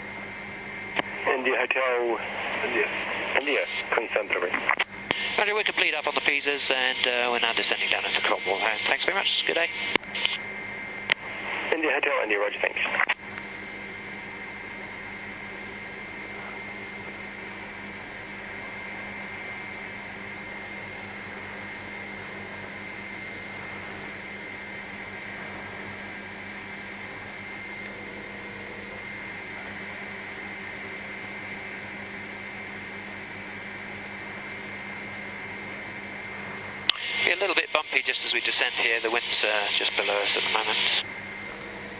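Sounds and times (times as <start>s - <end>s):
helicopter cabin drone: 0.0s - 41.9s
high whine: 0.0s - 41.9s.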